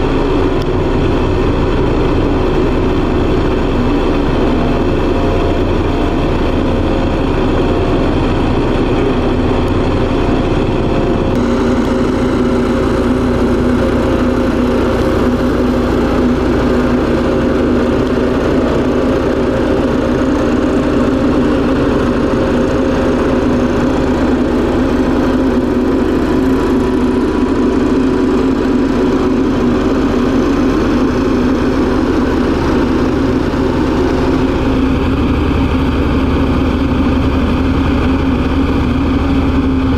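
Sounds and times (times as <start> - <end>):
roller diesel engine running: 0.0 - 39.9.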